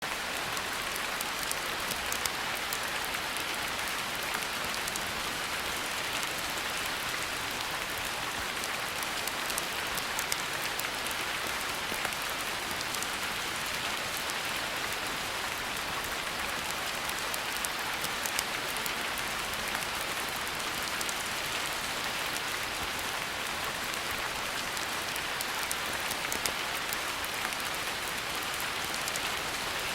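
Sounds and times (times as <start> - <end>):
rain on a hard surface: 0.0 - 29.9.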